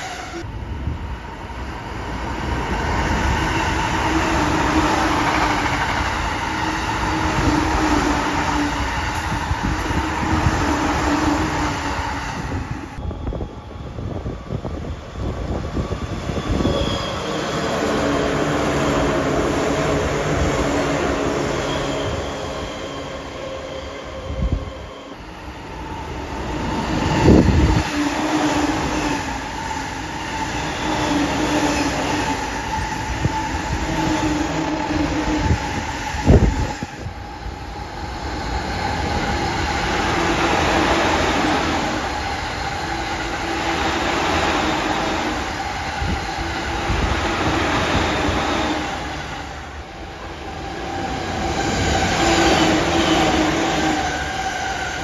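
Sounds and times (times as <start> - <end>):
electric trains passing: 0.0 - 55.0
wheels rushing on rail: 0.0 - 55.0.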